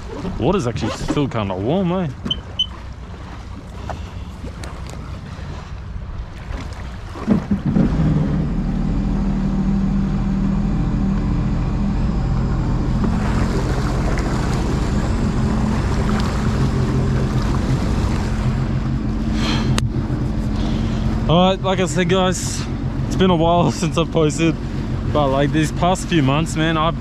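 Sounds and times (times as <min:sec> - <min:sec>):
jet ski engine starting and idling: 0:00.0 - 0:27.0.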